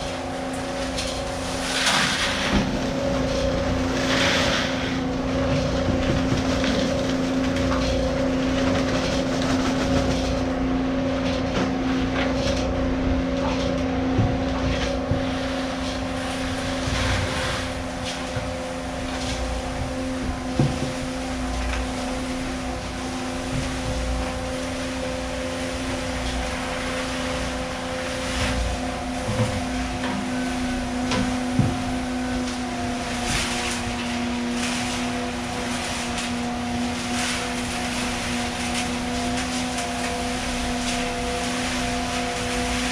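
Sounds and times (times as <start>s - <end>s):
motor humming: 0.0s - 42.9s.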